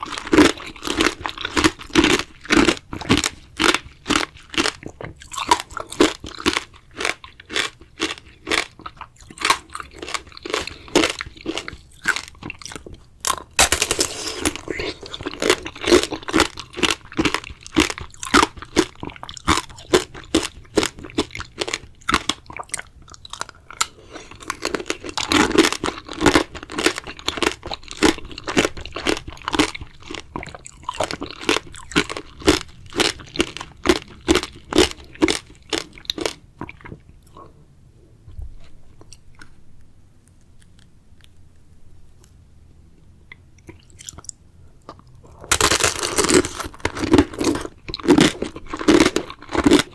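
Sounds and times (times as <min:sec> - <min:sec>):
chewing strawberries: 0:00.0 - 0:37.6, 0:43.0 - 0:49.9.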